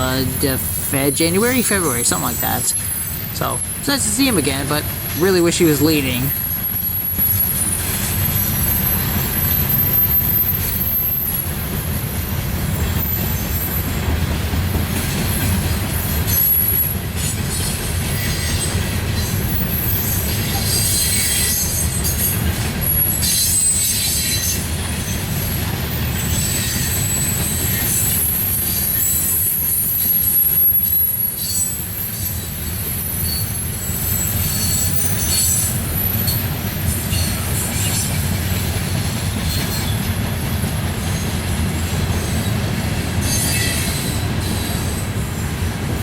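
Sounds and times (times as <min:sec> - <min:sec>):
freight train wheels rumbling: 0:00.0 - 0:46.0.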